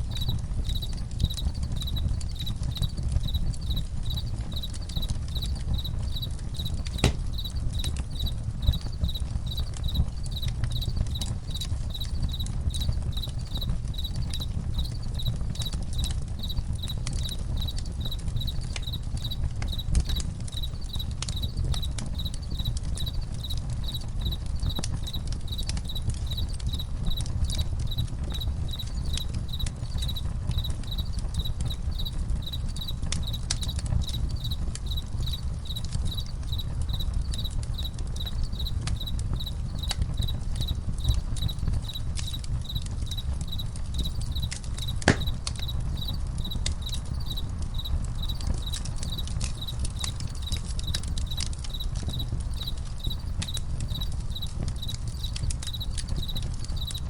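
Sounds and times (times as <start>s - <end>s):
campfire rumble and crackles: 0.0s - 57.0s
crickets chirping: 0.1s - 57.0s.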